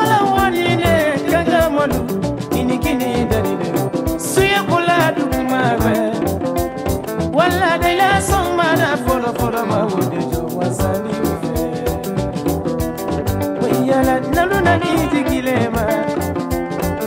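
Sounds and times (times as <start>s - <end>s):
drums and bass beat: 0.0s - 17.0s
electric guitars: 0.0s - 17.0s.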